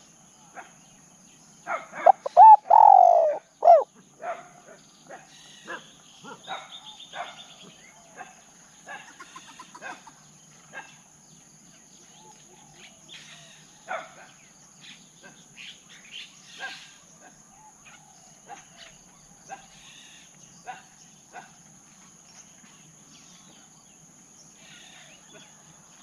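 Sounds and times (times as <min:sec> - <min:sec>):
birds chirping and trilling: 0:00.0 - 0:21.6, 0:22.2 - 0:26.0.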